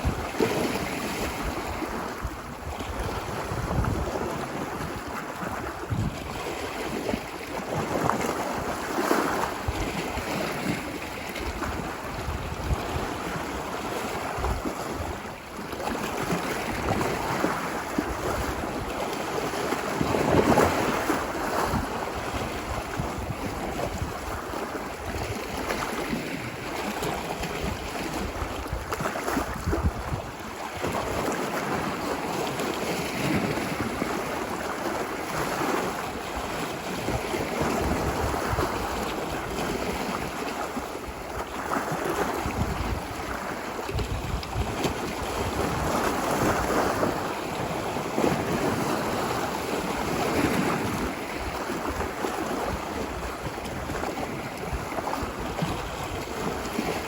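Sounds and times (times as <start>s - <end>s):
ocean waves washing ashore: 0.0s - 57.0s
wind buffeting microphone: 0.0s - 57.0s.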